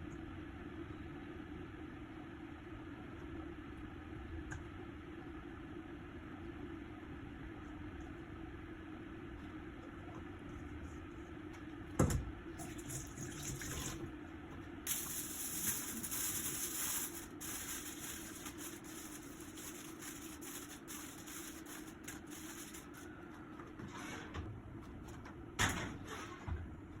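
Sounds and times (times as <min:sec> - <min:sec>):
steady hum: 0:00.0 - 0:25.6.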